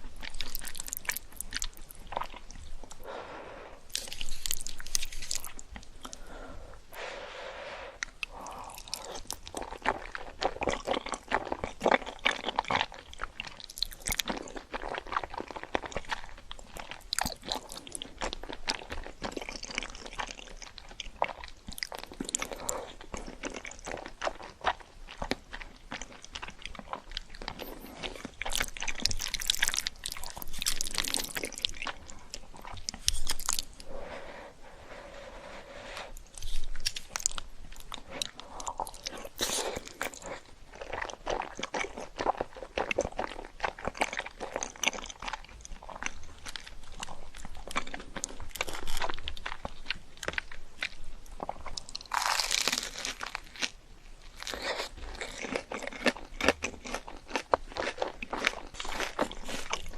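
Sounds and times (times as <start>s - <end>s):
person chewing crunchy food: 0.0s - 7.1s, 8.0s - 59.9s.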